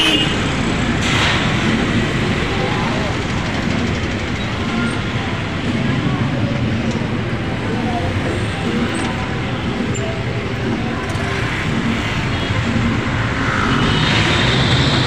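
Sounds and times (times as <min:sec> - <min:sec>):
motorcycle engine running: 0:00.0 - 0:15.0
road and traffic noise: 0:00.0 - 0:15.0.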